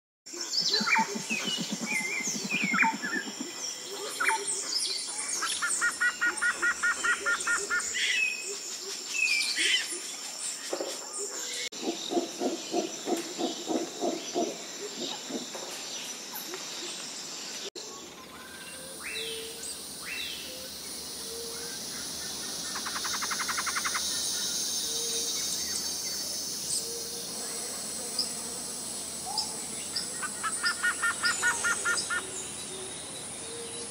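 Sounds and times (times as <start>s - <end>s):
high insect drone: 0.3s - 10.4s, 11.8s - 33.9s
birds chirping and trilling: 0.3s - 33.9s.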